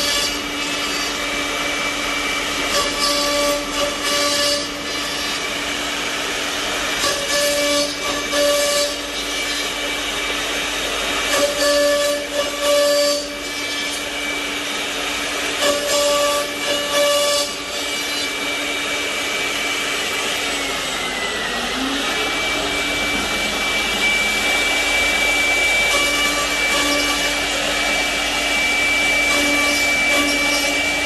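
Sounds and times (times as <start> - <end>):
machine cutting into wood: 0.0 - 31.0
machine spindle whine: 0.0 - 31.0.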